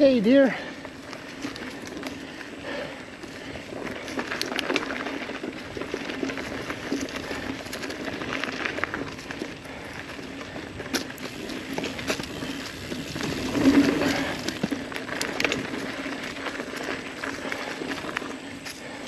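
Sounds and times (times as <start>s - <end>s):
bike clicks and rattles: 0.0s - 19.0s
bike tyres on dirt and leaves: 0.0s - 19.0s.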